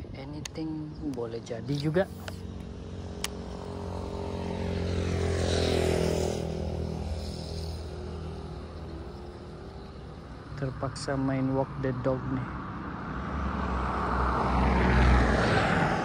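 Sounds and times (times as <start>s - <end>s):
vehicle engine passing: 1.3s - 16.0s.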